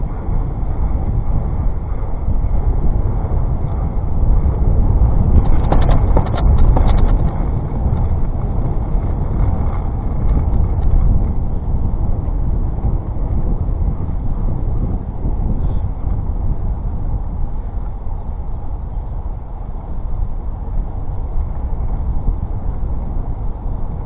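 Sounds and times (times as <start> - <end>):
street noise: 0.0 - 24.0
wind rumble on microphone: 0.0 - 24.0.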